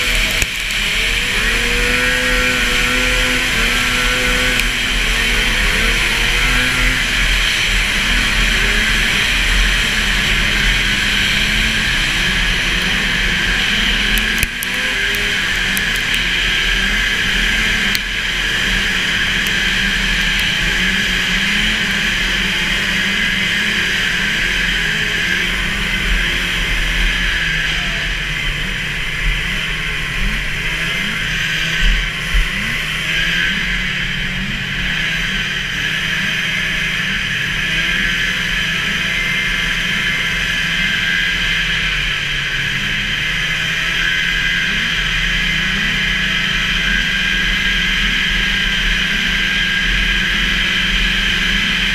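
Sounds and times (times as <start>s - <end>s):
snowmobile engine at high revs: 0.0s - 51.9s.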